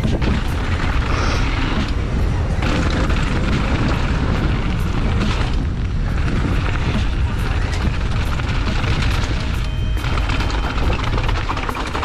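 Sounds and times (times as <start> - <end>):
bike rattling over bumps: 0.0 - 12.0
tyres on dirt trail: 0.0 - 12.0
wind buffeting microphone: 0.0 - 12.0.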